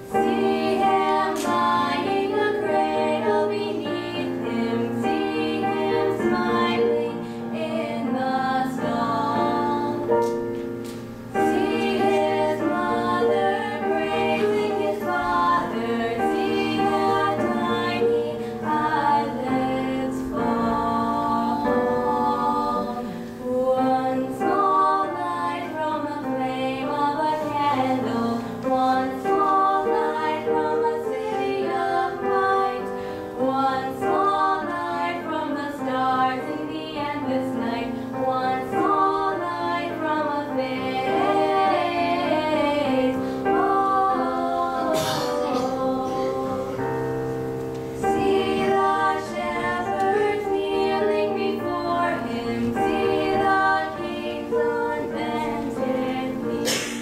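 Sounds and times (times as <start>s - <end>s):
girls singing a duet: 0.0s - 57.0s.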